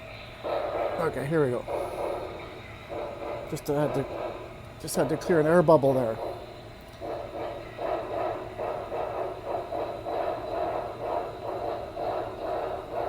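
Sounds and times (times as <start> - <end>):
model steam locomotive chuffing: 0.0 - 13.0.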